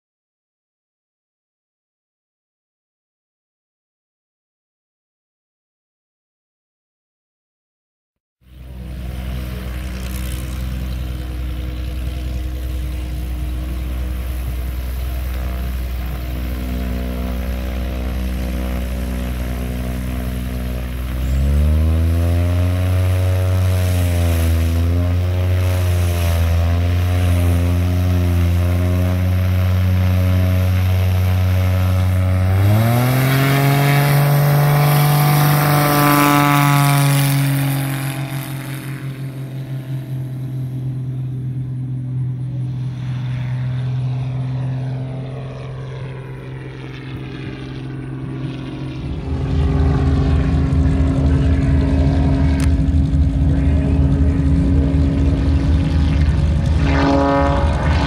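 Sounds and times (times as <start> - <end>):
propeller plane engine running: 8.4 - 58.0.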